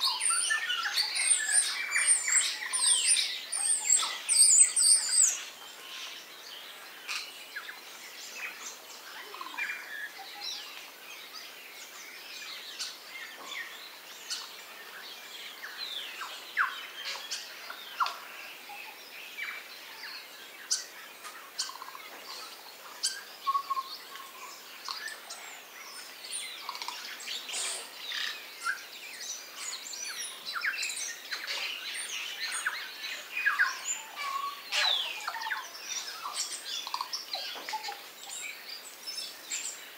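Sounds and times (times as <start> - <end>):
birds chirping and whistling: 0.0 - 39.9.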